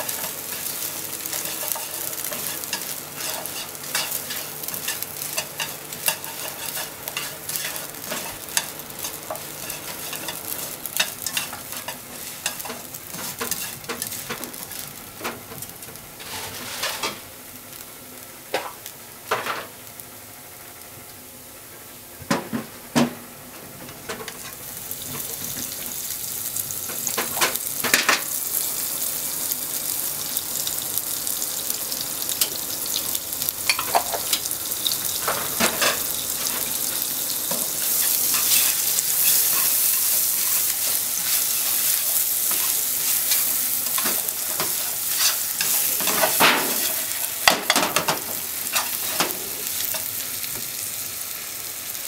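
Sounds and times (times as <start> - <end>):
bread frying with sizzling hiss: 0.0 - 52.0.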